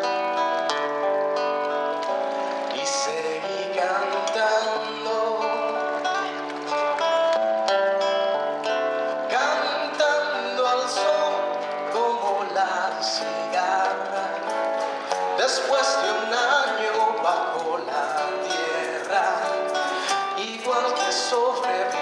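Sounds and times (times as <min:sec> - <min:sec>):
plucked acoustic guitar: 0:00.0 - 0:22.0.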